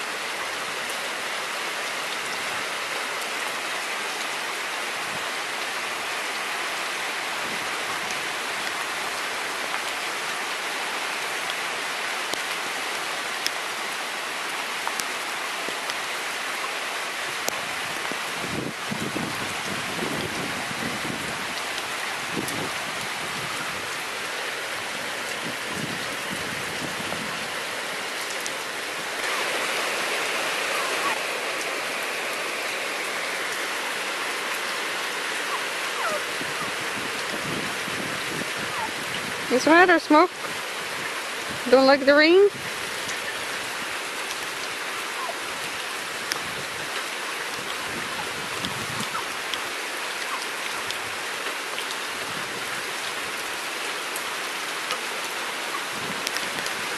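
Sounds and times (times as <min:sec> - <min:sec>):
rain hissing on grass: 0:00.0 - 0:56.9.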